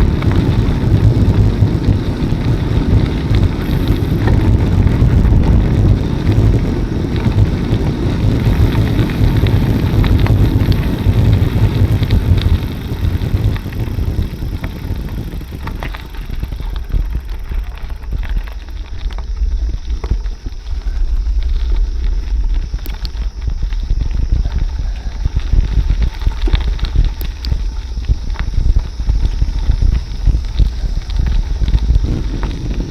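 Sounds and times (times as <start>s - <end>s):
bicycle rolling: 0.0s - 32.9s
small rattles and clicks: 0.0s - 32.9s
wind buffeting microphone: 0.0s - 32.9s.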